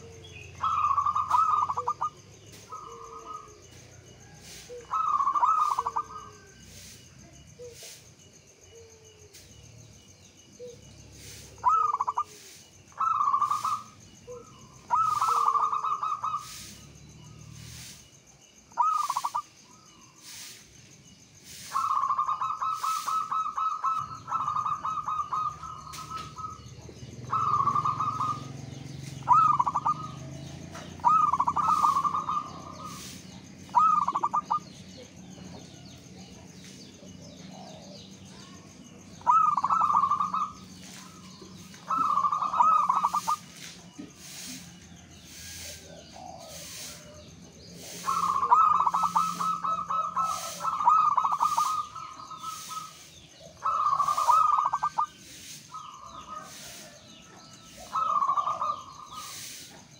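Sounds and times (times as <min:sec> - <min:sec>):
dove cooing: 0:00.0 - 0:08.0, 0:10.5 - 0:17.9, 0:18.7 - 0:19.6, 0:21.6 - 0:59.9.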